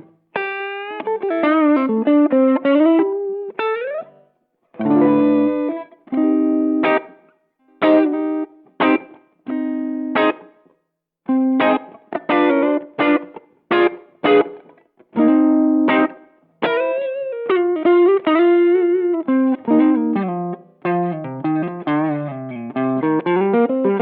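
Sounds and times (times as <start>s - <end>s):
overdriven electric guitar: 0.0s - 10.7s, 11.3s - 24.0s.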